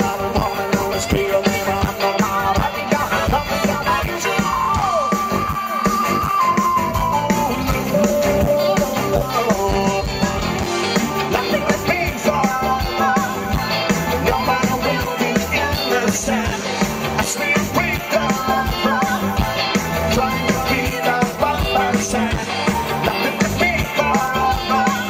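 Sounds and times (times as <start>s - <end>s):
lead singer singing: 0.0s - 25.0s
live band playing: 0.0s - 25.0s.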